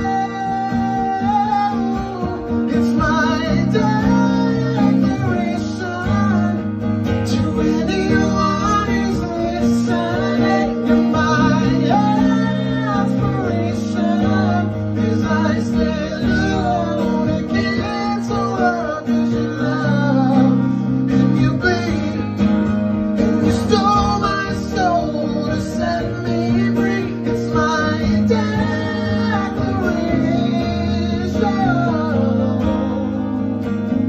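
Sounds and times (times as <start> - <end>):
acoustic guitar strumming: 0.0 - 34.0
man singing: 0.0 - 34.0.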